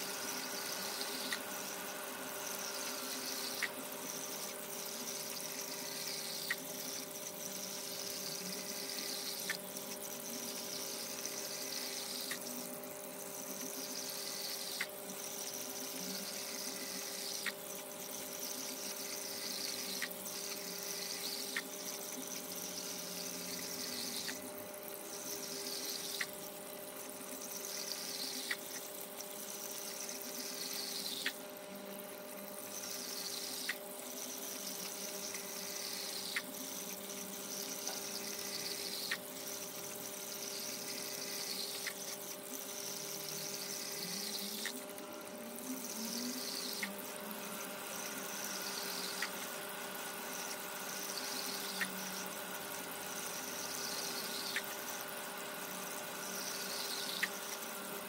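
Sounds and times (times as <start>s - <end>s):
motor hum: 0.0s - 58.0s.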